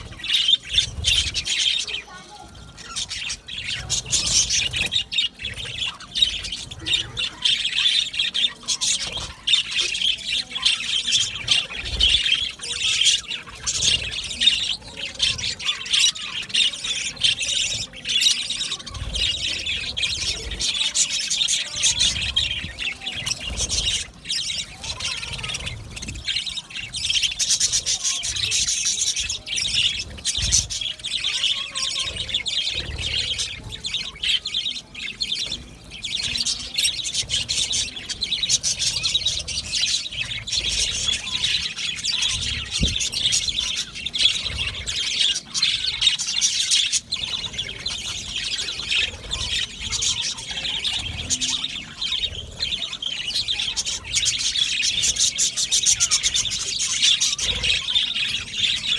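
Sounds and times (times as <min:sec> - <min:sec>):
budgerigars chattering and squawking: 0:00.0 - 0:58.9.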